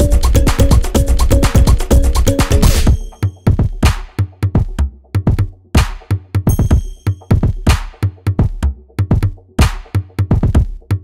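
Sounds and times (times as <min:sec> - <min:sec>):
electronic music with drum-machine beat: 0:00.0 - 0:11.0.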